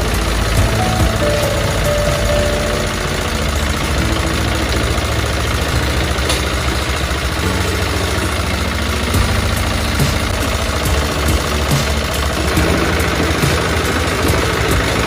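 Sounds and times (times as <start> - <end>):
tiller engine running: 0.0 - 15.0.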